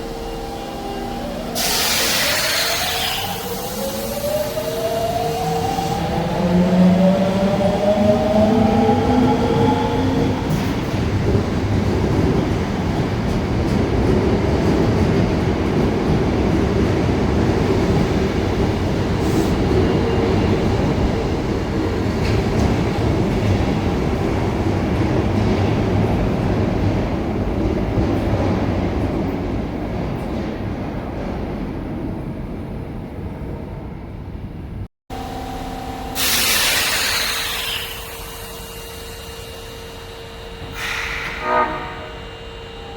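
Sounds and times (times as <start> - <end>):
subway train rumbling: 0.0 - 42.9.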